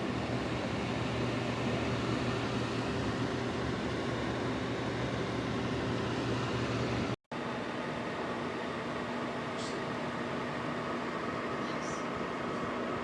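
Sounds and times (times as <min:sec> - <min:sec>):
space heater fan whoosh: 0:00.0 - 0:13.0.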